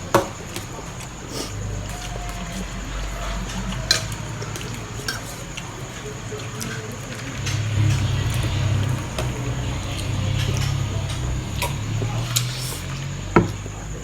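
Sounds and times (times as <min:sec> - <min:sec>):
chewing and slurping: 0:00.0 - 0:14.0.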